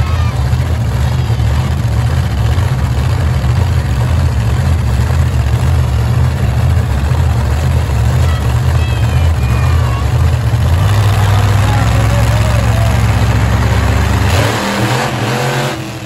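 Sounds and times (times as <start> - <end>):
monster truck engines idling: 0.0 - 16.0.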